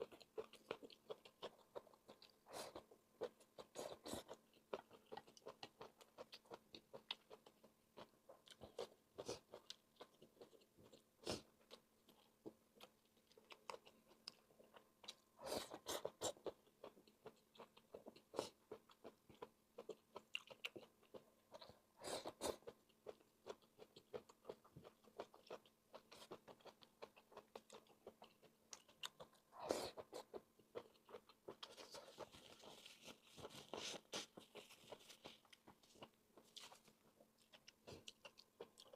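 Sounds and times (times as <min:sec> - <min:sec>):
chewing and biting food: 0:00.0 - 0:38.9.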